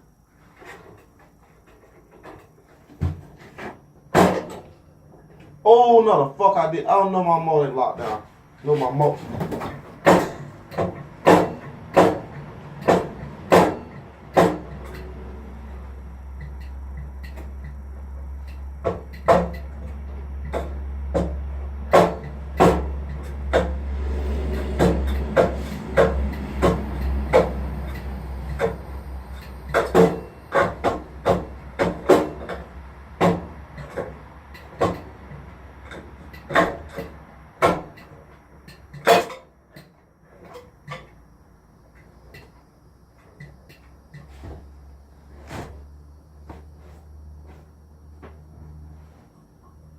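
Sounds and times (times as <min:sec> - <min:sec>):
objects knocking and clunking: 0:00.5 - 0:05.6, 0:08.0 - 0:48.5.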